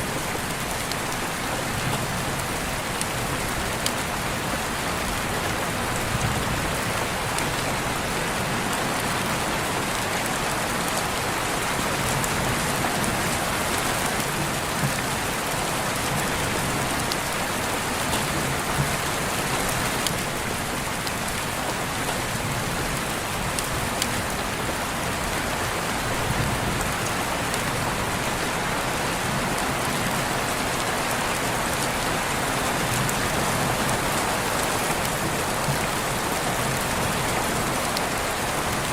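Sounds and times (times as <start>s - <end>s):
heavy rain falling: 0.0s - 38.9s
raindrops ticking on surfaces: 0.0s - 38.9s.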